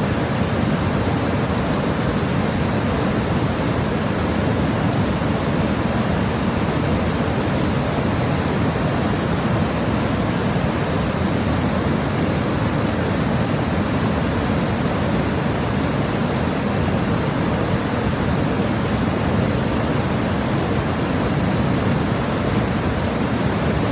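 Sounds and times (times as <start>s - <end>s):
river water rushing over rocks: 0.0s - 23.9s.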